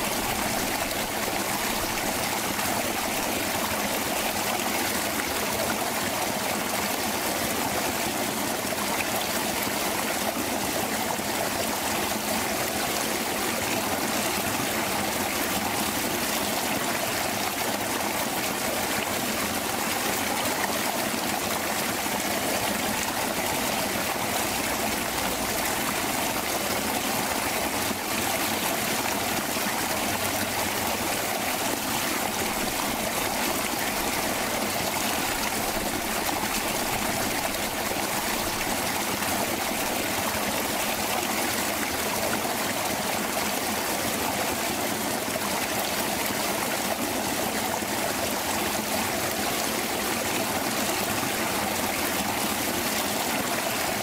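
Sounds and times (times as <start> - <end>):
creek water babbling: 0.0 - 54.0.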